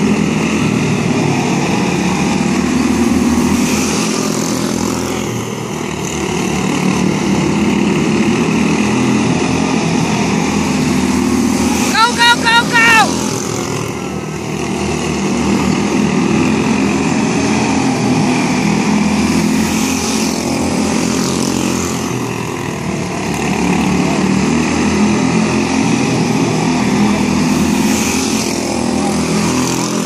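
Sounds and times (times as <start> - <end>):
small race car engines buzzing: 0.0 - 30.0.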